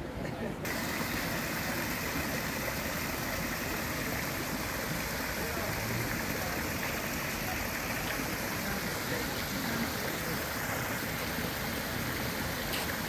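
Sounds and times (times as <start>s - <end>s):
waterfall splashing into pond: 0.6s - 13.0s.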